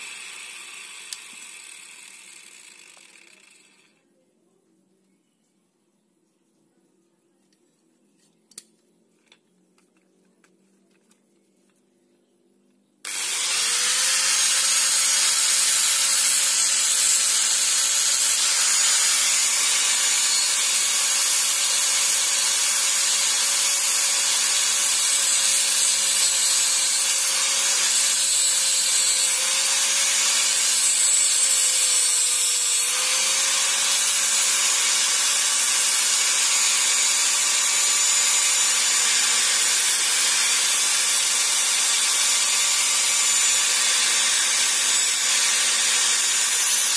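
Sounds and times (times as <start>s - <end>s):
angle grinder grinding metal: 0.0s - 4.0s, 13.1s - 46.9s.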